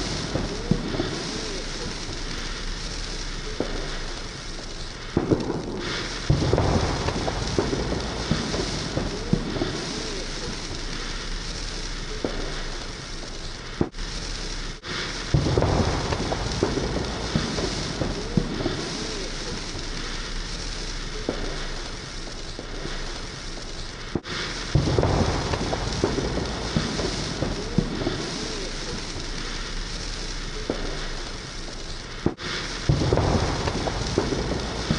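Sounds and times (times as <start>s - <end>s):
crackling pops: 0.0s - 34.9s
firework booms: 0.0s - 34.9s
steady hiss: 0.0s - 34.9s.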